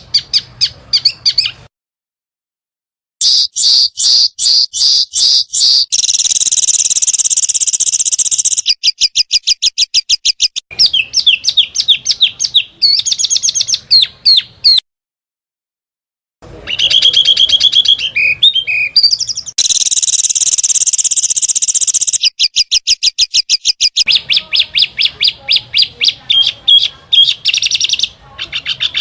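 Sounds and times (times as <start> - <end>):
small songbird singing: 0.0 - 1.7, 3.2 - 14.8, 16.6 - 29.0.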